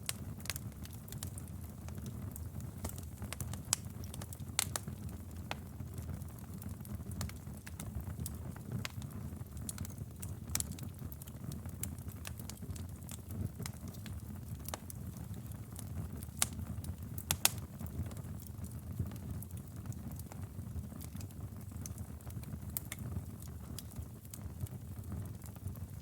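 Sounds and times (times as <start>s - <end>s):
burning wood crackling and popping: 0.0s - 26.0s
low rumble of flames: 0.0s - 26.0s.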